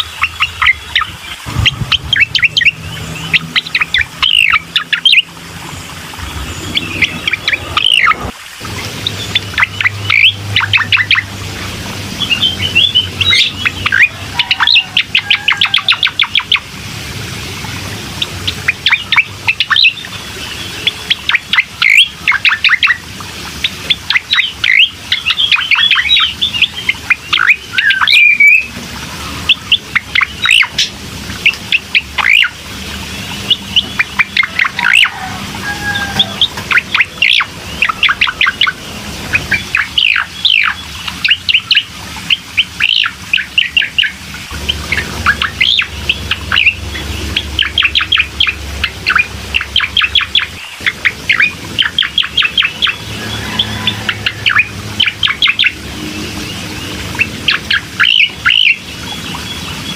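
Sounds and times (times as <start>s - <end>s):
recorded bird song chirps: 0.0s - 59.9s.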